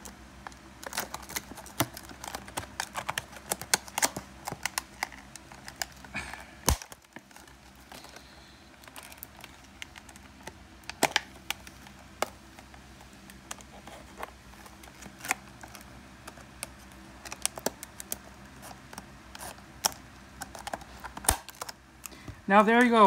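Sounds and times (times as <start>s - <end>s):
plastic packaging crackling: 0.0s - 23.0s.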